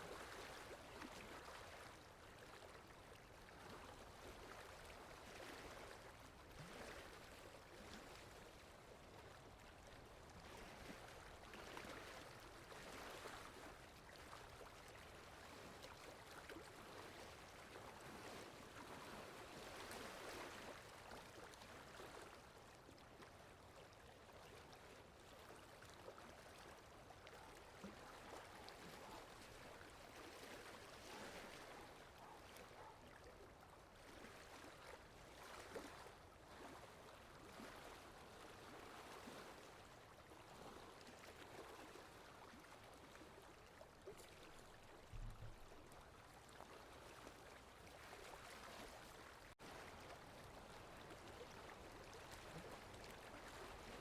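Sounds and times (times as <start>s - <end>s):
water lapping: 0.0s - 54.0s
wind: 0.0s - 54.0s.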